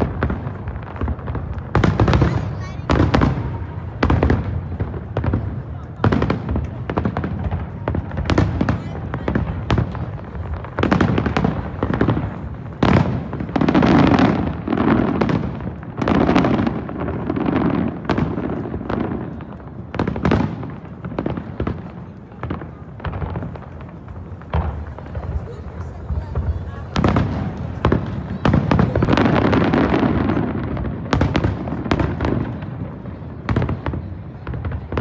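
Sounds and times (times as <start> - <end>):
fireworks bangs and crackles: 0.0 - 35.0
fireworks booms: 0.0 - 35.0.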